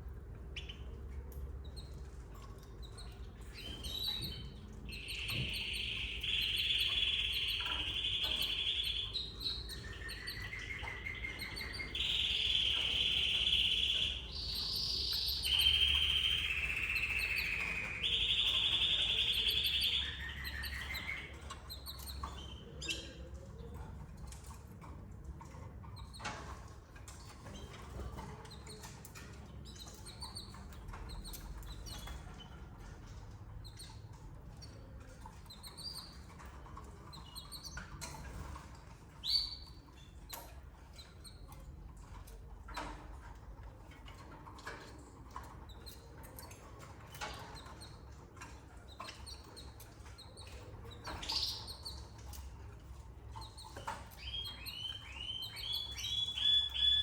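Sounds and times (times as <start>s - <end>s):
canaries chirping: 0.0s - 57.0s.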